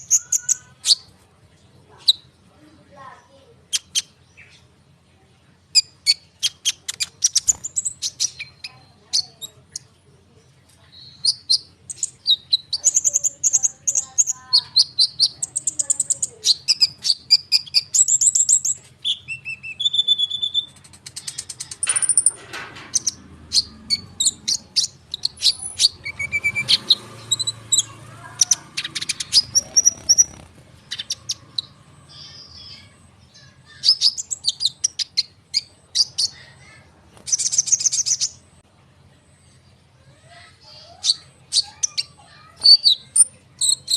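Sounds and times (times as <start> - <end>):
bird singing high chirps and trills: 0.0 - 43.9.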